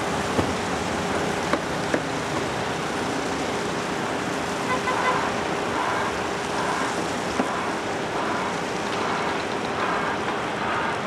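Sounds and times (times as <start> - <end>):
distant jet engines roaring: 0.0 - 11.0.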